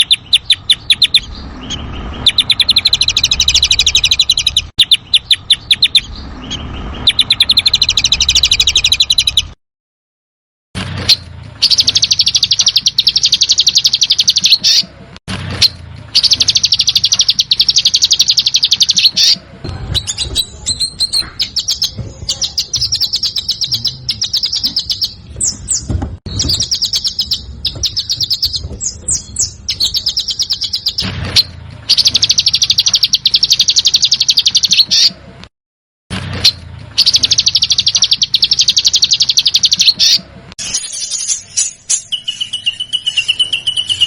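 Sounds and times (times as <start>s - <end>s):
bird chirps: 0.0s - 9.6s, 11.0s - 15.0s, 15.6s - 35.2s, 36.4s - 44.0s
songbird rattling trills: 0.0s - 9.6s, 11.1s - 14.9s, 15.6s - 35.1s, 36.4s - 44.0s.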